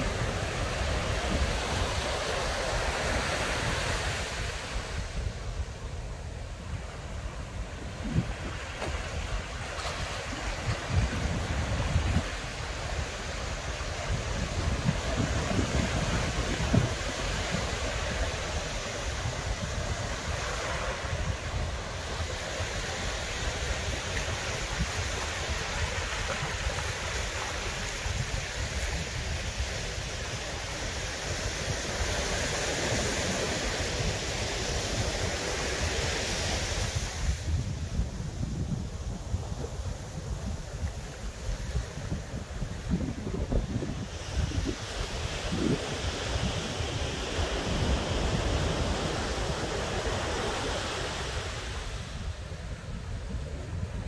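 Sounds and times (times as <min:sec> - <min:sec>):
ocean surf washing onto beach: 0:00.0 - 0:54.0
wind buffeting microphone: 0:00.0 - 0:54.0.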